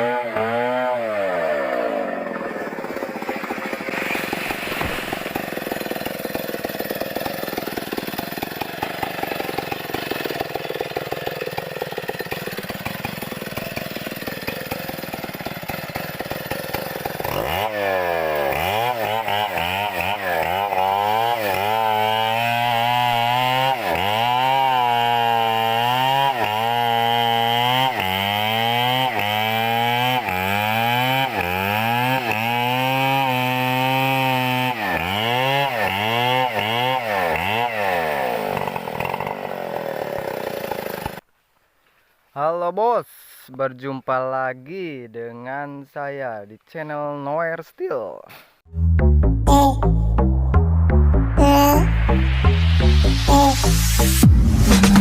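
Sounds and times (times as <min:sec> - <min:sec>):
chainsaw cutting wood: 0:00.0 - 0:41.3, 0:50.8 - 0:55.0.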